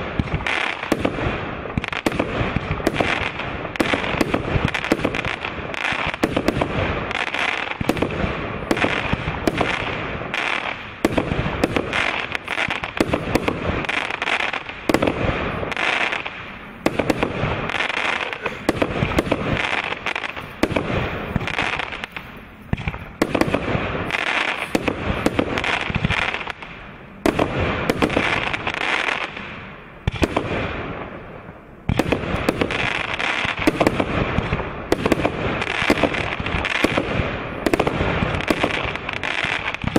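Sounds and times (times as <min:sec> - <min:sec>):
fireworks launching and bursting: 0:00.0 - 0:39.9.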